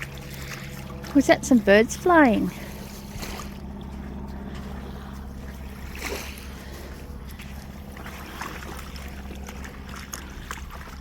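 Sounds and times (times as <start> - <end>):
distant propeller aircraft droning: 0.0 - 11.0.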